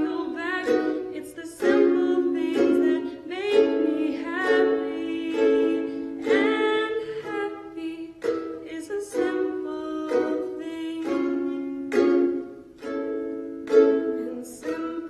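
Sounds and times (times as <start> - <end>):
plucked string instrument strumming: 0.0 - 15.0.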